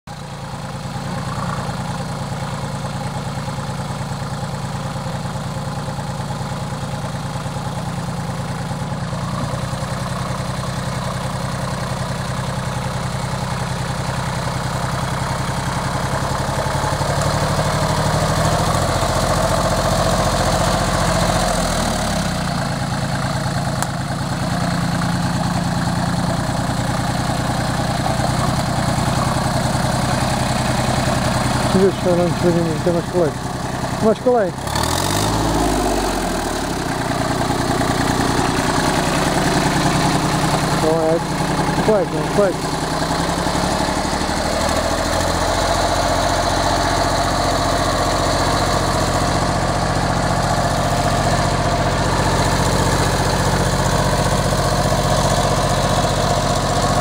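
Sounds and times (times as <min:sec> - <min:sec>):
tractor engine running: 0:00.1 - 0:57.0.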